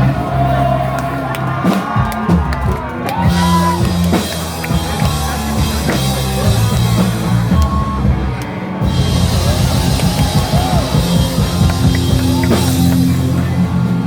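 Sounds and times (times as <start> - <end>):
bass notes: 0.0 - 14.0
drum kit: 0.0 - 14.0
electric guitar: 0.0 - 14.0.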